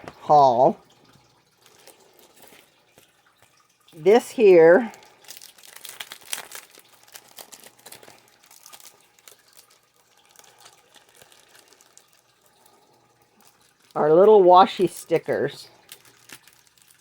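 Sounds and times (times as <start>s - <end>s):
plastic packaging crinkling: 0.2s - 17.0s.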